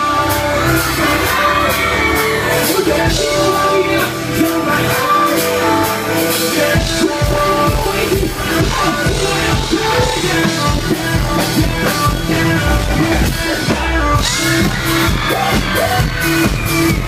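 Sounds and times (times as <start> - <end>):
live dance-rock band: 0.0 - 17.0
people singing into microphones: 0.0 - 17.0.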